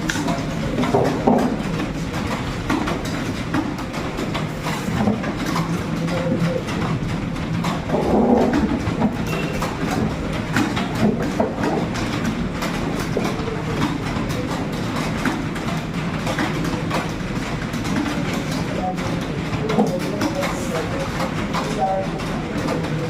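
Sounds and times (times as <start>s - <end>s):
fast keyboard typing: 0.0s - 23.0s.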